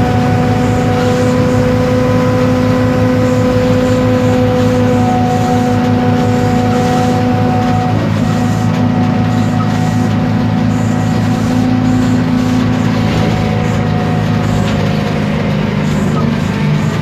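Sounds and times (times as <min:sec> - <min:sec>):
bus engine hum: 0:00.0 - 0:17.0
high whine: 0:00.0 - 0:17.0.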